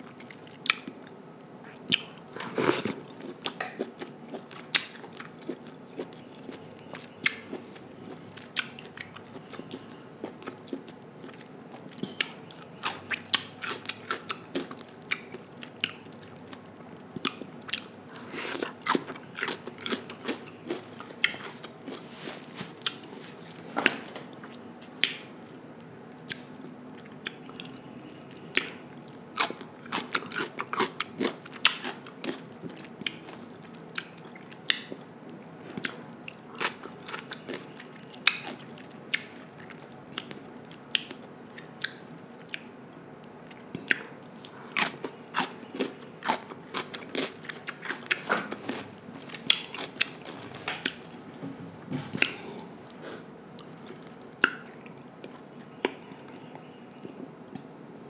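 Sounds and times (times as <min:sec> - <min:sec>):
crunchy chewing: 0:00.0 - 0:25.6, 0:26.2 - 0:35.1, 0:35.7 - 0:51.3.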